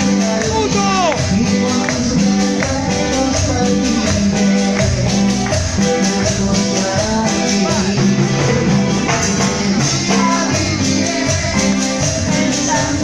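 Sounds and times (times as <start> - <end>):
live band playing dance music: 0.0 - 13.0.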